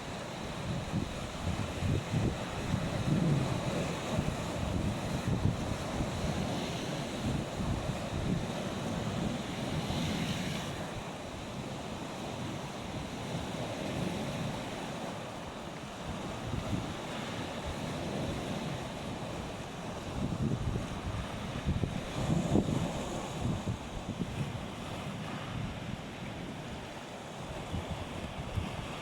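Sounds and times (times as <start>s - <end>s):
wind buffeting microphone: 0.0s - 15.1s, 15.9s - 29.0s
waves washing onto beach: 0.0s - 29.0s.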